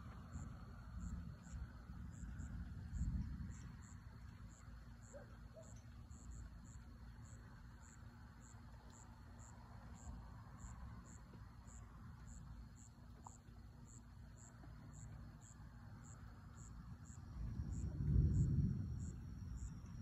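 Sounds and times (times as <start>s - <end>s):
faint low rumble: 0.0s - 20.0s
insect chirping: 0.1s - 20.0s.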